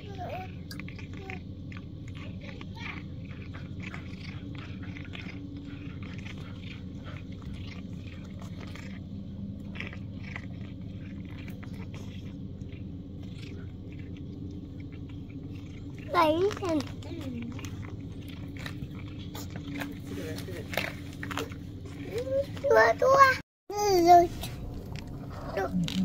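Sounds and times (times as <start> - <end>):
cat chewing and crunching: 0.0 - 26.0.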